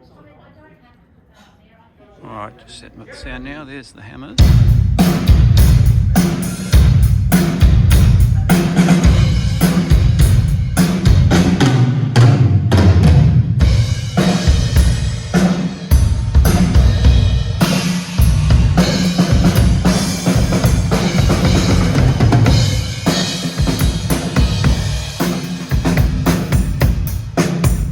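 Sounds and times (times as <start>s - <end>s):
drum kit playing: 4.2s - 27.9s.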